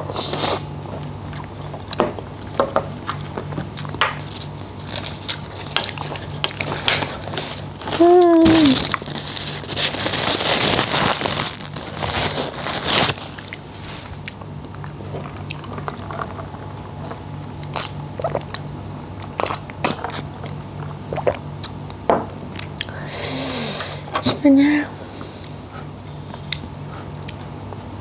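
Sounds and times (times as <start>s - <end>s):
chewing with crunching: 0.0s - 23.0s, 25.4s - 28.0s
steady low hum: 0.0s - 28.0s.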